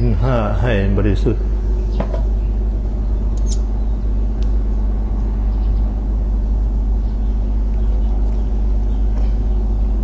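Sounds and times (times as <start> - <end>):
faint even hum: 0.0 - 10.0
steady low rumble: 0.0 - 10.0.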